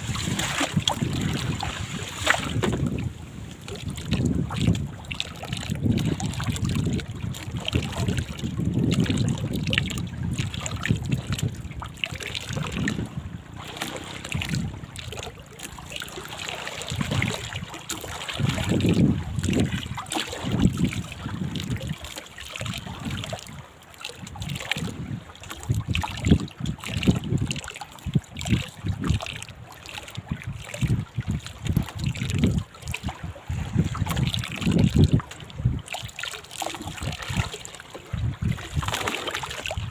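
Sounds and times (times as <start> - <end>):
wind buffeting microphone: 0.0 - 22.0, 22.6 - 36.1, 36.7 - 39.9
water lapping against boat hull: 0.0 - 39.9.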